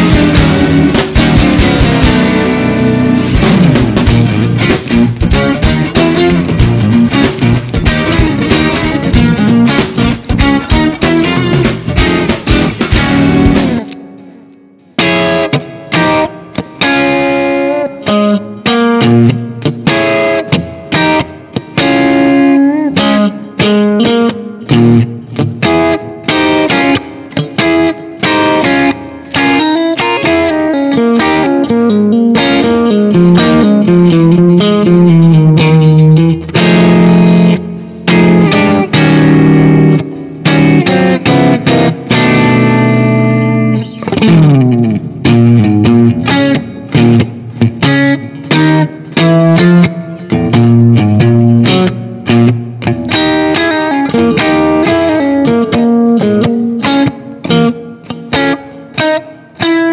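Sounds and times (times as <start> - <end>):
electric guitar lead line: 0.0 - 59.9.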